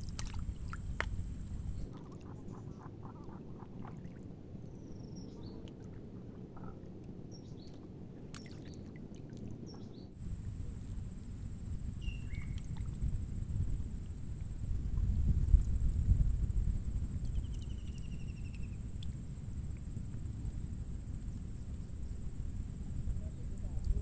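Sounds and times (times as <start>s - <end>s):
steady low rumble: 0.0s - 7.4s, 10.2s - 24.0s.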